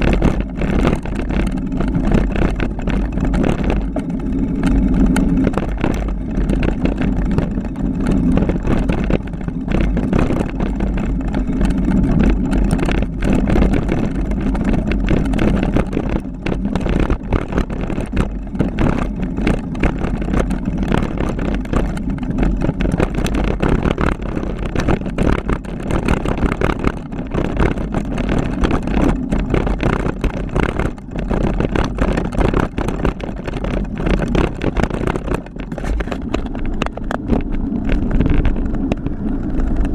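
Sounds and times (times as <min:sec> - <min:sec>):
bike rattling over bumps: 0:00.0 - 0:39.9
wind and rolling tyres: 0:00.0 - 0:39.9.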